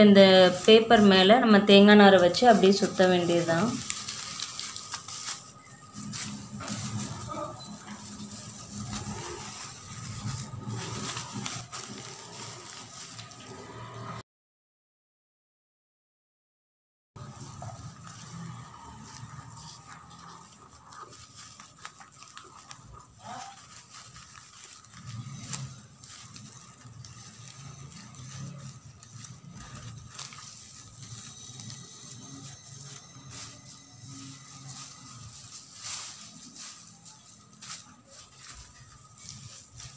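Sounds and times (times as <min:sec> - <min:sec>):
fibre and newspaper rustling: 0:00.0 - 0:14.2, 0:17.2 - 0:39.9.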